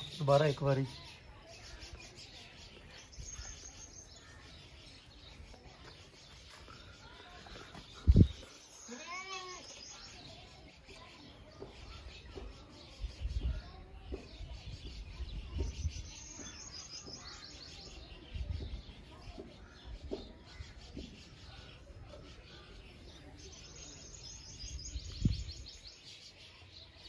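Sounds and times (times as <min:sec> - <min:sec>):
faint birdsong: 0:00.0 - 0:27.0.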